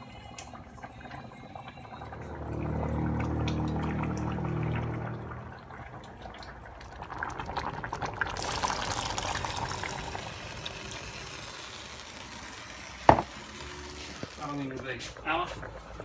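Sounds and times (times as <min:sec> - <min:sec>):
liquid bubbling in a pan: 0:00.0 - 0:16.0.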